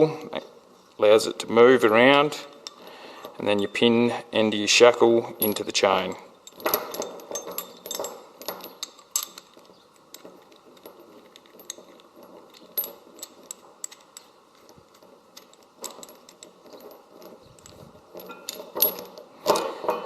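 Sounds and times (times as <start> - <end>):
chain and shackle clinking: 1.6 - 20.0.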